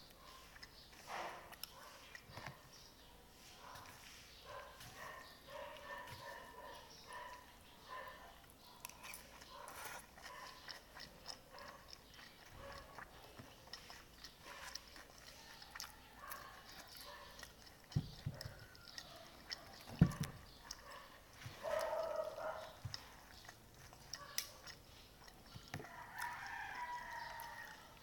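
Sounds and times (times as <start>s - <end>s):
person chewing noodles: 0.0s - 3.0s, 3.6s - 28.0s.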